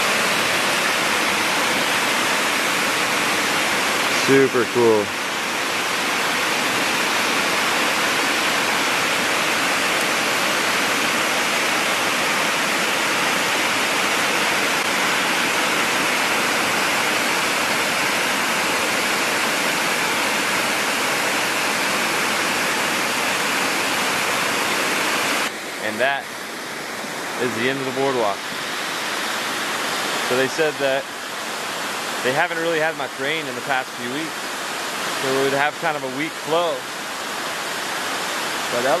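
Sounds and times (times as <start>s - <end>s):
waterfall falling water: 0.0s - 39.0s.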